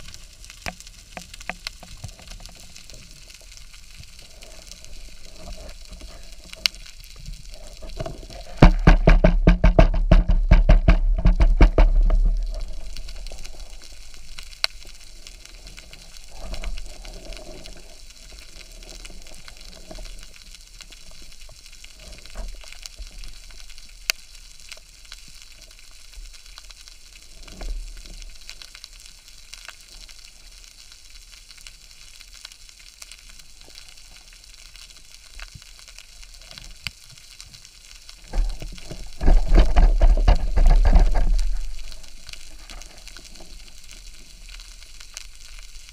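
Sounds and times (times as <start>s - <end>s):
low surges of water: 0.0s - 31.1s, 33.3s - 45.9s
underwater crackling and clicks: 0.0s - 45.9s.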